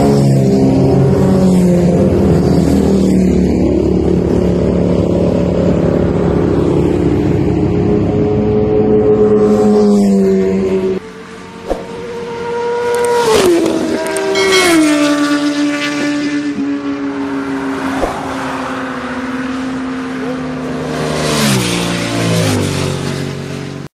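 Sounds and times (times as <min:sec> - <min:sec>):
fast vehicles passing by: 0:00.0 - 0:23.9.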